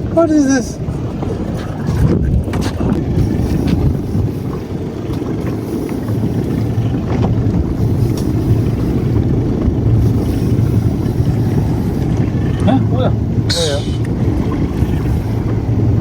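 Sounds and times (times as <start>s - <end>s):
boat engine rumble: 0.0s - 16.0s
wind on microphone: 0.0s - 16.0s.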